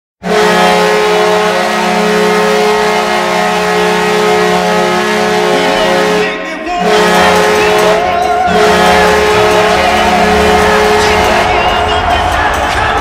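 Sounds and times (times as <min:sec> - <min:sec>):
goal horn blast: 0:00.2 - 0:13.0.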